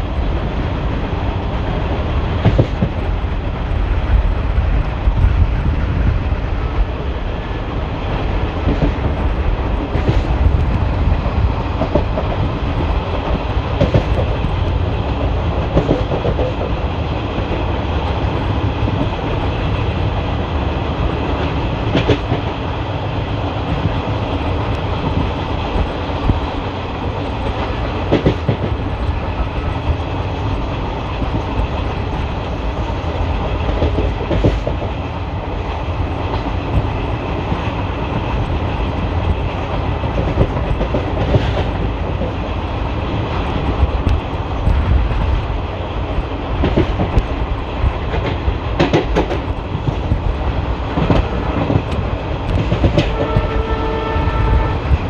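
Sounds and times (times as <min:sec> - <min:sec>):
train wheels rumbling on track: 0:00.0 - 0:55.0
clacks over rail joints: 0:01.8 - 0:05.4, 0:08.5 - 0:35.1, 0:36.1 - 0:55.0.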